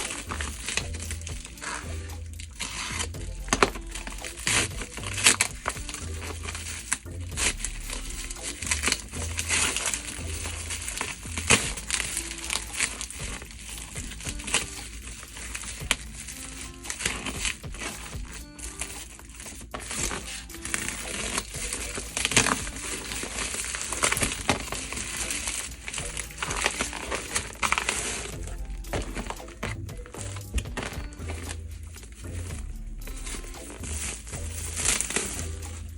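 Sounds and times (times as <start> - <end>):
background music: 0.0 - 35.9
packaging crinkling: 0.0 - 35.9.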